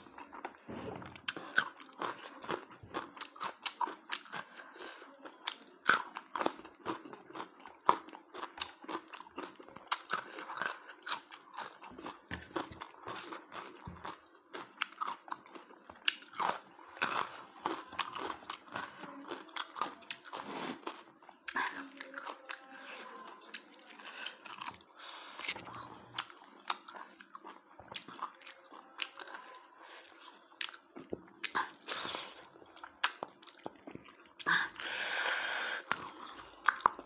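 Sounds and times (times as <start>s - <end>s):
person chewing and crunching: 0.0s - 37.0s.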